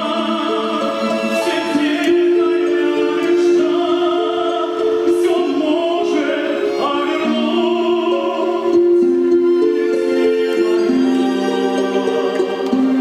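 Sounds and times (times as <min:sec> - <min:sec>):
operatic singing with accompaniment: 0:00.0 - 0:13.0.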